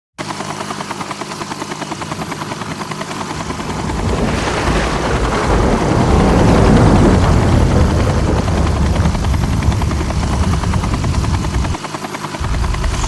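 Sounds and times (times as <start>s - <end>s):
helicopter rotor chopping: 0.2s - 13.0s.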